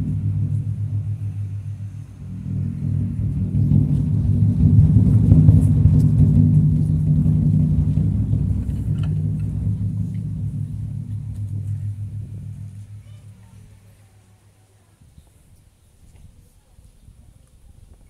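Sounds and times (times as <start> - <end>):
taiko drums rolling: 0.0 - 14.6.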